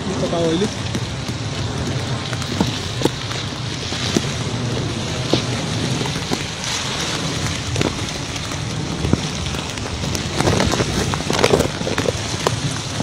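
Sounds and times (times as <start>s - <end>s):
rushing floodwater and rain: 0.0s - 13.0s
wind on microphone: 0.0s - 13.0s
small water splashes: 0.4s - 13.0s.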